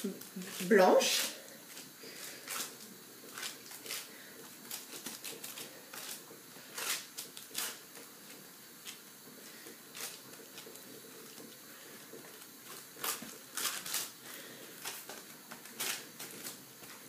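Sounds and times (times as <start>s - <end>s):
baking paper rustling: 0.0s - 17.0s.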